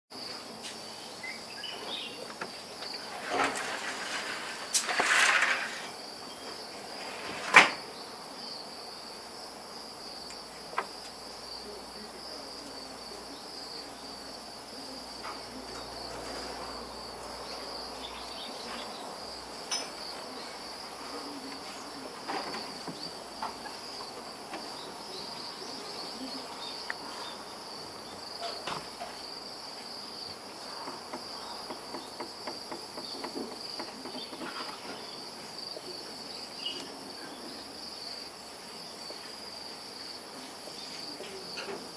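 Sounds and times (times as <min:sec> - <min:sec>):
crickets chirring: 0:00.1 - 0:41.9.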